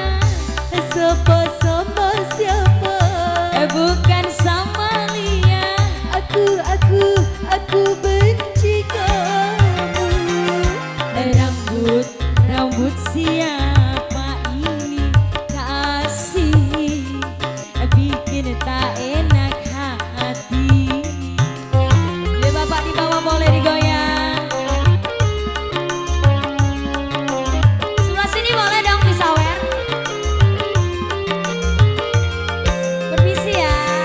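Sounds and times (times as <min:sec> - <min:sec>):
hand-drum beat: 0:00.0 - 0:34.0
live band playing a song: 0:00.0 - 0:34.0
pulsing bass: 0:00.0 - 0:34.0.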